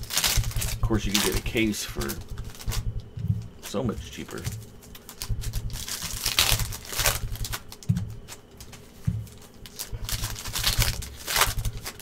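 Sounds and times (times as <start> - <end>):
plastic wrap crinkling and tearing: 0.0 - 3.0, 3.6 - 12.0.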